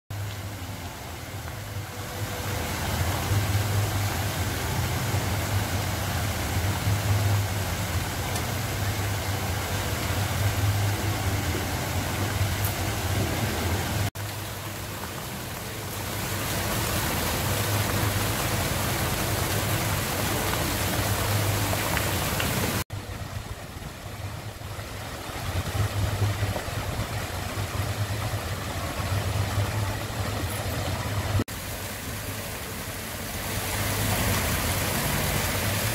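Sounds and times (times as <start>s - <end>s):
fountain water splashing: 0.1s - 35.9s
low uneven rumble: 0.2s - 35.9s.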